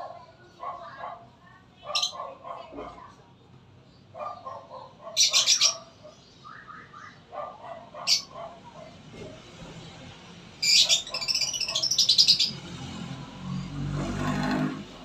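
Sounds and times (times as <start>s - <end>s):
small birds chirping: 0.1s - 9.1s, 9.8s - 12.9s.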